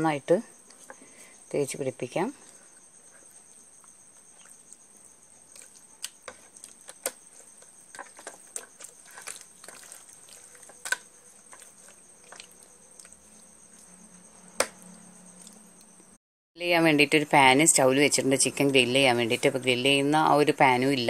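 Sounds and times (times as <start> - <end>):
cricket trill: 0.0 - 21.0.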